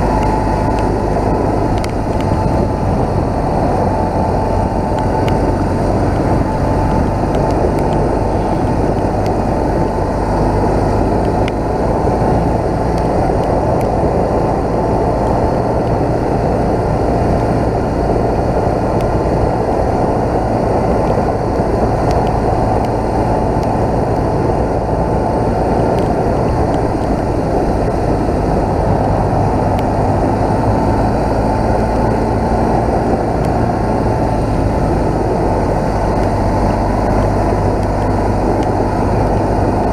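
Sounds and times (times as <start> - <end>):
motorcycle engine drone: 0.0 - 39.9
wind noise: 0.0 - 39.9.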